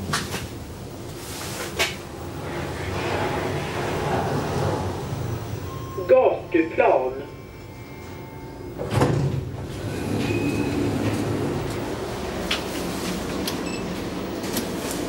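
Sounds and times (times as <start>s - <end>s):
low rumble of railway station: 0.0s - 15.0s.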